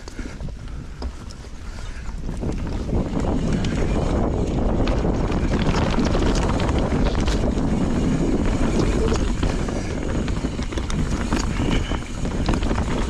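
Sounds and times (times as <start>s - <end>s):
bike clicks and rattles: 0.0s - 13.0s
bike tyre rumble on dirt: 0.0s - 13.0s
wind on microphone: 0.0s - 13.0s.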